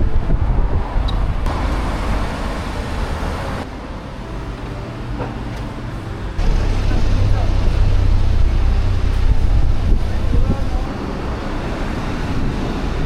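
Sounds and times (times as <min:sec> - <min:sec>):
vehicles passing on street: 0:00.0 - 0:13.0.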